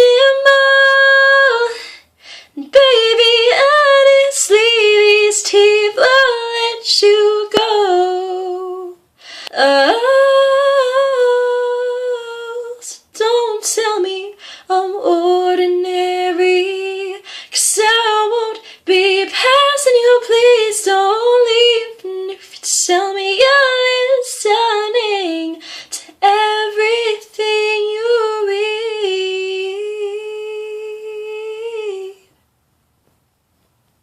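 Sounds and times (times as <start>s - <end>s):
woman singing a cappella: 0.0s - 32.4s.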